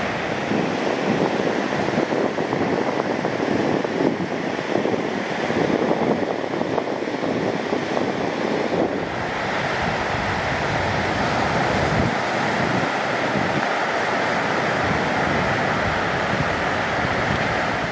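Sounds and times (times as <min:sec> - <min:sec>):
small waves breaking: 0:00.0 - 0:17.9.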